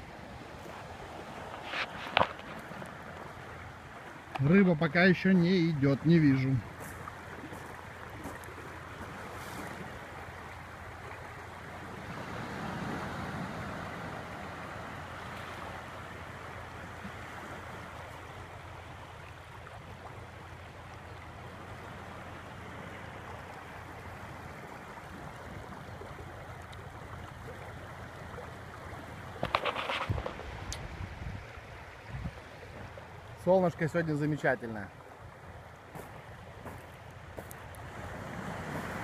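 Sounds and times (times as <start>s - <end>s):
ocean surf washing: 0.0s - 39.0s
river water rippling over pebbles: 0.0s - 39.0s.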